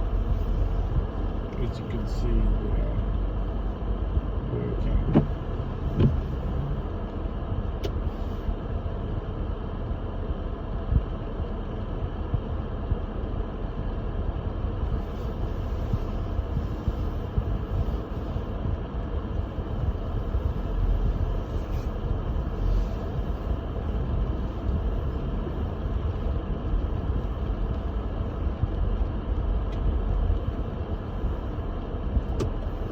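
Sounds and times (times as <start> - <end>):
car driving rumble: 0.0 - 32.9.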